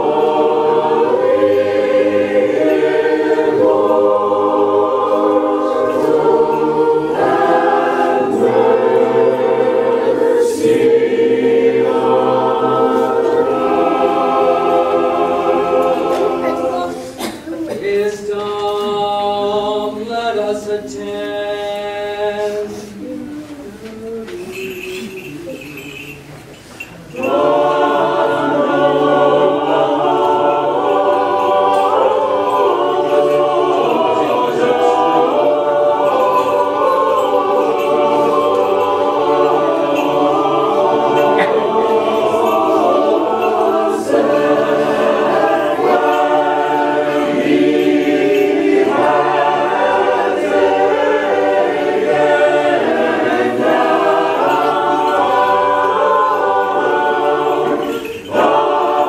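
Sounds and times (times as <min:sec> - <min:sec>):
choir singing a cappella hymn: 0:00.0 - 0:59.0.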